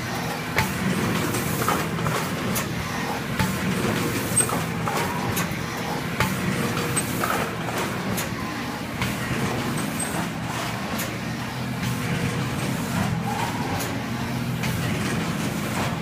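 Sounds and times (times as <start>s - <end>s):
printing press humming: 0.0s - 16.0s.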